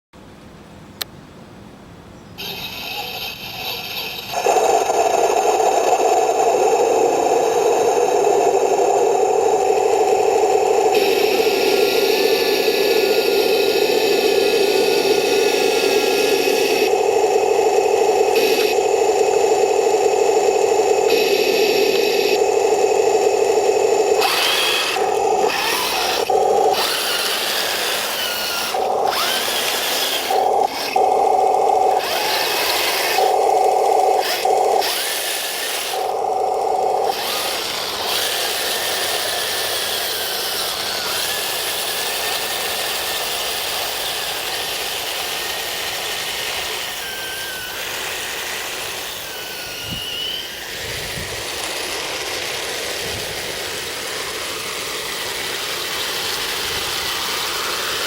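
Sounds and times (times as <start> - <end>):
electric motors whining: 2.4 - 58.0.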